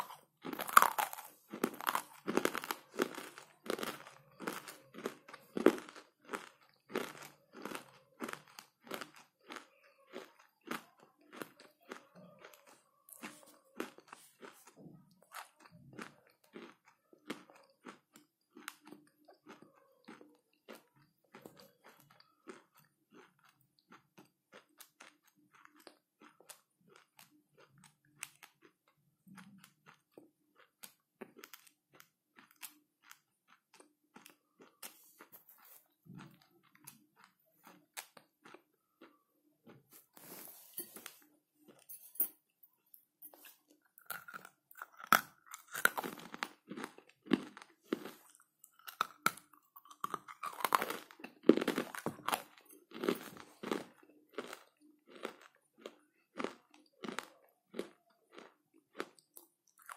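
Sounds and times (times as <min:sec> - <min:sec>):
chewing crisp crunches: 0:00.0 - 0:41.9, 0:43.3 - 0:59.9.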